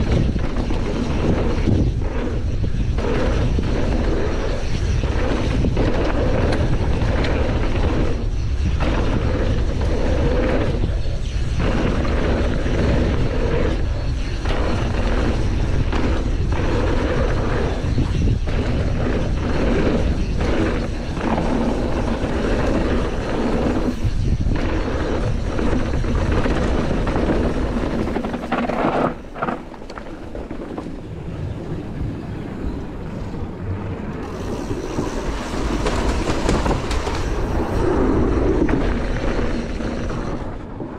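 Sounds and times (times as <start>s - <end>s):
bike tyres rumbling over dirt: 0.0s - 40.9s
wind rushing over microphone: 0.0s - 40.9s.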